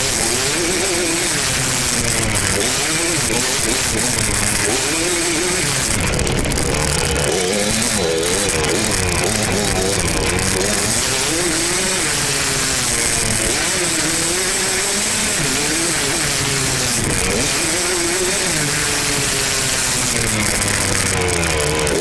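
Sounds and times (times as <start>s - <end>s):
two-stroke dirt bike engine: 0.0s - 22.0s.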